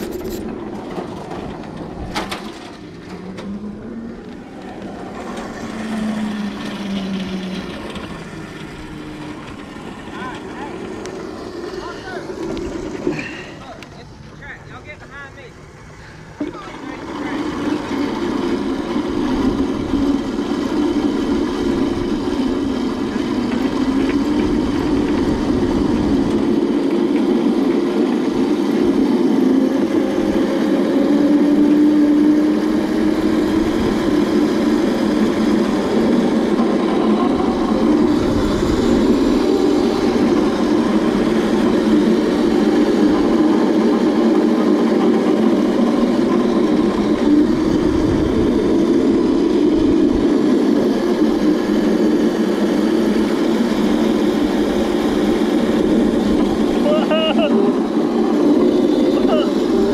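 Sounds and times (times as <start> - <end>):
electric kart motor hum: 0.0 - 59.9.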